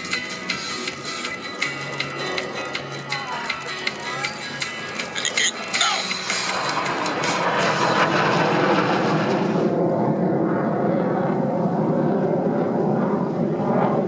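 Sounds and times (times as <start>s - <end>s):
jet aircraft rushing: 0.0s - 14.0s.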